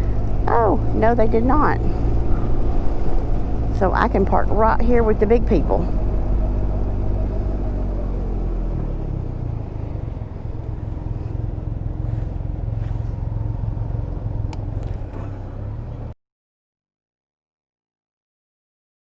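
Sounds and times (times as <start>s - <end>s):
motorcycle engine idling: 0.0s - 16.1s.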